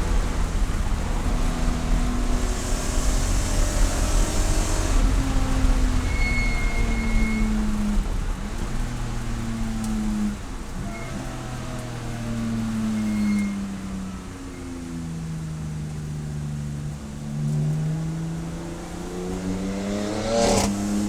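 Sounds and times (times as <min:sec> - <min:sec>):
race car engine changing gears: 0:00.0 - 0:21.0.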